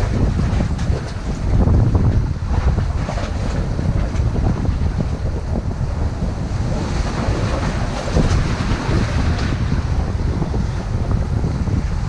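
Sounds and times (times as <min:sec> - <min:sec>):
waves washing against rocks: 0:00.0 - 0:12.0
wind buffeting microphone: 0:00.0 - 0:12.0.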